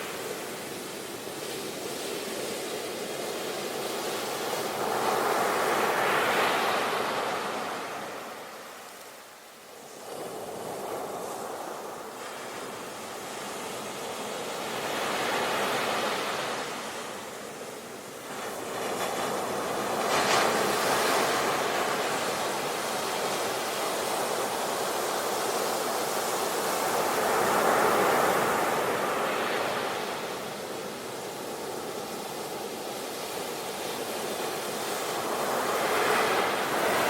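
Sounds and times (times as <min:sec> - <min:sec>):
sea waves breaking on beach: 0:00.0 - 0:08.9, 0:09.8 - 0:37.0.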